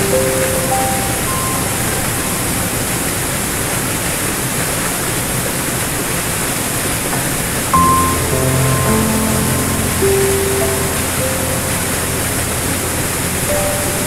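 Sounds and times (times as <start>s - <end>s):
waterfall pouring over rocks: 0.0s - 14.0s.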